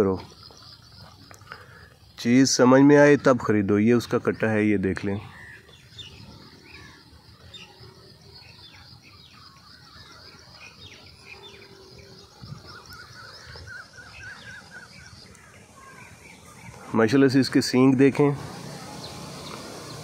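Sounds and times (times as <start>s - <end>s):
quiet outdoor background noise: 0.0s - 20.0s
small birds chirping: 0.0s - 20.0s.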